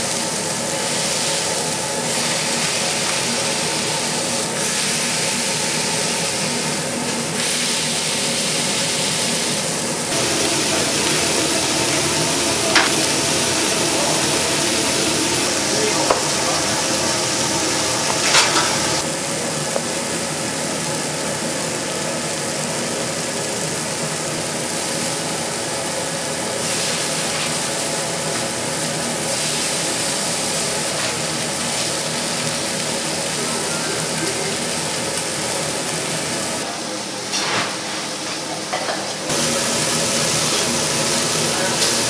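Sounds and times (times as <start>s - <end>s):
frying hiss: 0.0s - 36.8s, 39.2s - 42.0s
mechanical hum: 0.0s - 42.0s.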